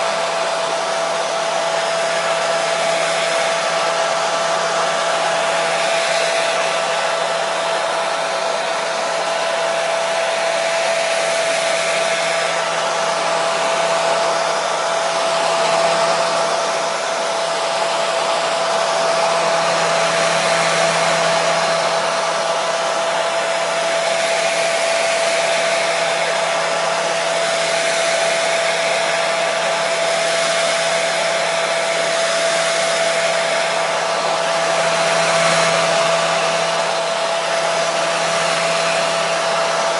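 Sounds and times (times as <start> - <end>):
hair dryer blowing air: 0.0 - 39.9
motor hum: 0.0 - 39.9.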